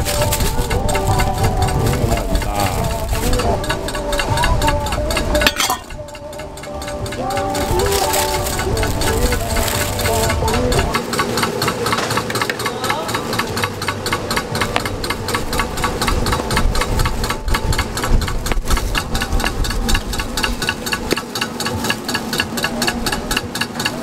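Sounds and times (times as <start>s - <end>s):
small engine knocking: 0.0s - 24.0s.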